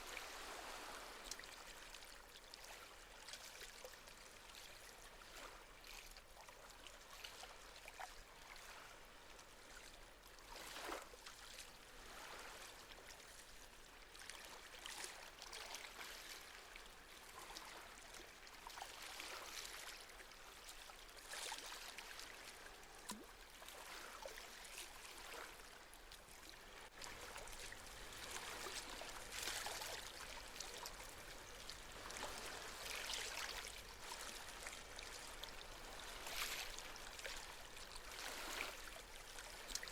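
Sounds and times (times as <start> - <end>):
sea waves lapping at shore: 0.0 - 39.9.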